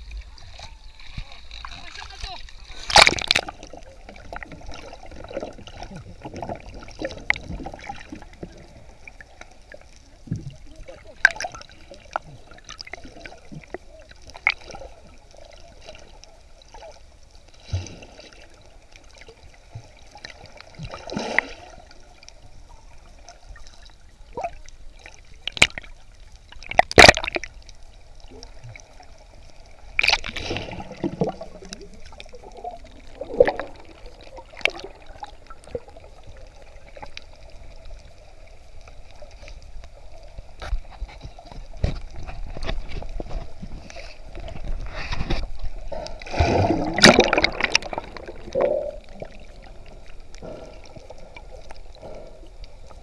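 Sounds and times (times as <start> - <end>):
muffled underwater hiss: 3.7 - 25.4, 27.6 - 53.0.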